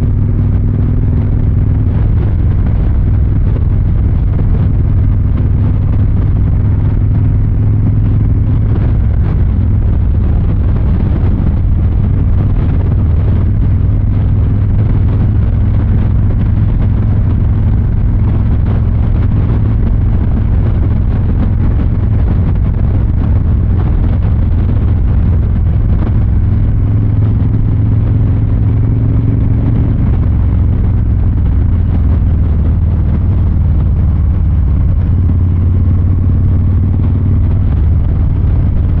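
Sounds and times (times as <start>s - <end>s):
motorcycle engine deep rumble: 0.0s - 39.0s.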